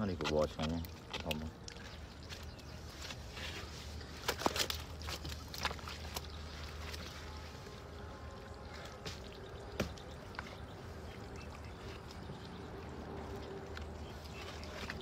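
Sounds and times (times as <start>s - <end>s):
water dribbling: 0.0s - 15.0s.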